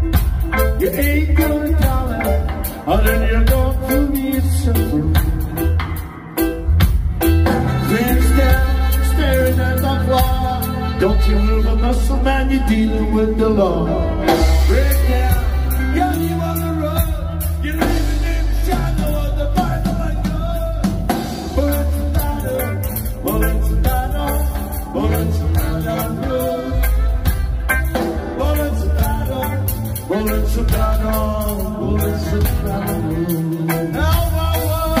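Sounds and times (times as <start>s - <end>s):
man singing: 0.0s - 6.8s, 7.4s - 35.0s
bass guitar: 0.0s - 35.0s
drum kit: 0.0s - 35.0s
electric guitar: 0.0s - 35.0s.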